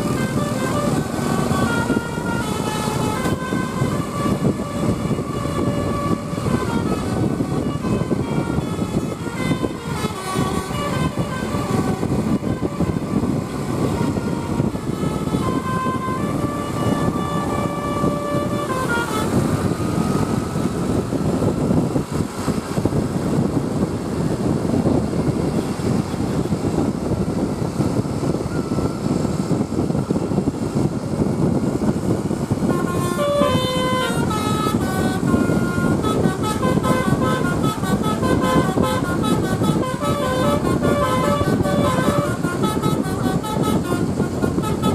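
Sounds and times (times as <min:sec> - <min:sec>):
bus musical horn: 0:00.0 - 0:44.9
engine and road rumble: 0:00.0 - 0:44.9.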